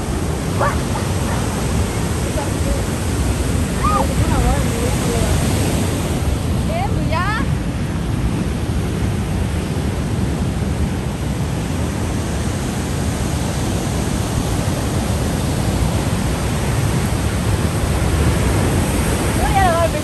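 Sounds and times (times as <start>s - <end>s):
surf breaking over rocks: 0.0s - 9.1s, 9.8s - 20.0s
wind buffeting microphone: 0.0s - 20.0s.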